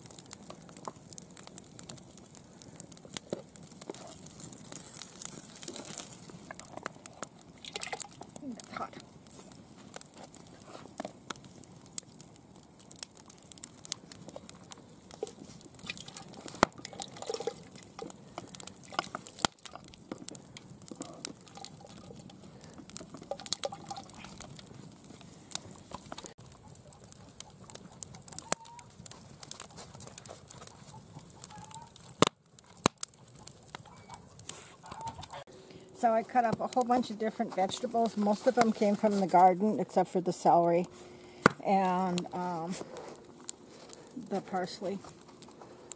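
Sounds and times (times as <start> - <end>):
fire popping and snapping: 0.0 - 45.9
wood fire crackling: 0.0 - 45.9.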